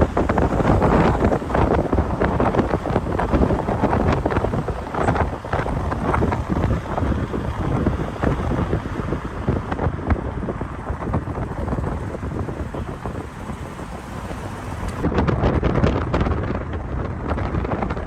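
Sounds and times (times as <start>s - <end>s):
car road noise: 0.0s - 18.0s
wind buffeting microphone: 0.0s - 18.0s.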